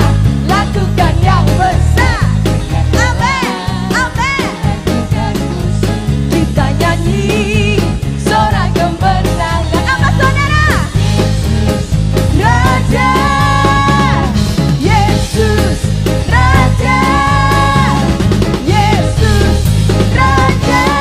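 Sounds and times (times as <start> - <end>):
live band playing upbeat song: 0.0 - 21.0
woman singing into microphone: 0.0 - 21.0.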